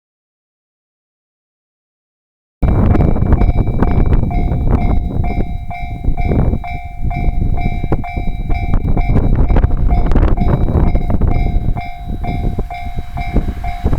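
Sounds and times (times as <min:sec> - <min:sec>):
crossing alarm electronic ding: 0:02.6 - 0:13.9
train rumbling and knocking: 0:02.6 - 0:13.9.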